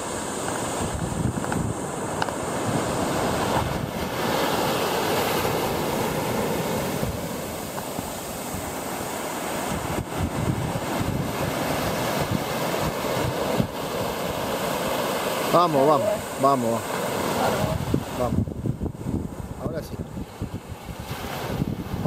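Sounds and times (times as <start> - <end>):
surf waves breaking on beach: 0.0 - 22.0
wind buffeting microphone: 0.0 - 22.0.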